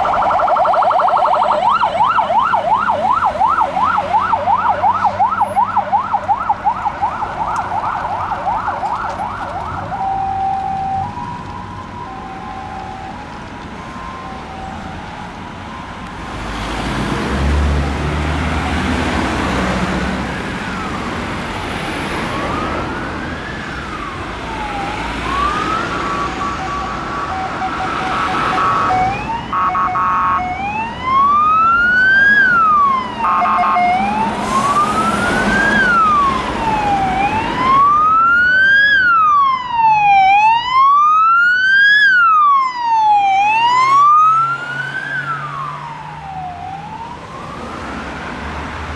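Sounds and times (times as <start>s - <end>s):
emergency siren wailing: 0.0s - 48.8s
street traffic: 0.0s - 48.9s.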